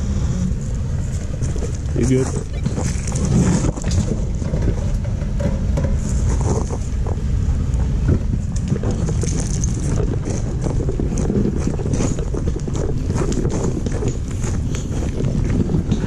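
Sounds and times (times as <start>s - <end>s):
off-road vehicle rumbling: 0.0s - 16.0s
wind buffeting microphone: 0.0s - 16.0s
knocks from rough trail: 1.2s - 16.0s.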